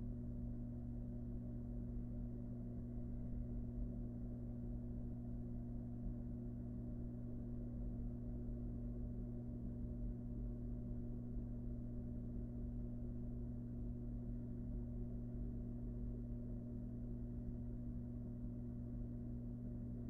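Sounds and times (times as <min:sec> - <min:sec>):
low hum with two tones: 0:00.0 - 0:20.0.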